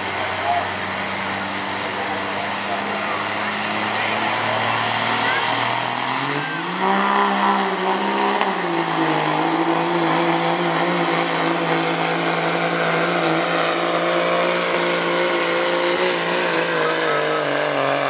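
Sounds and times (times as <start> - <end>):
diesel engine at full load: 0.0 - 18.0.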